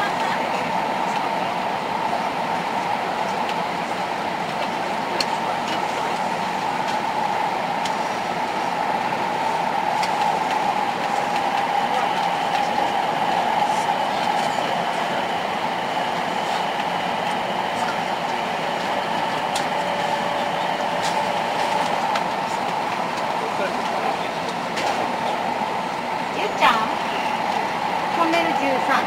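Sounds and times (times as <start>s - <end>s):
train running: 0.0s - 29.0s.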